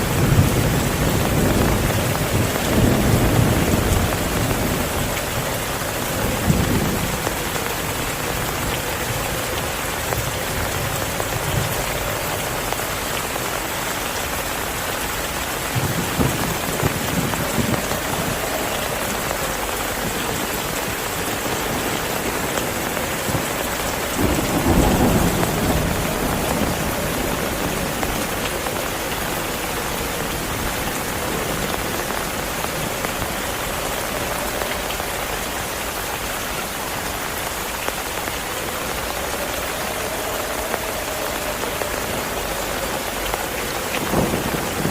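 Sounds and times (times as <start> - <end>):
thunder rolling: 0.0 - 13.0, 15.4 - 44.9
heavy rain falling: 0.0 - 44.9.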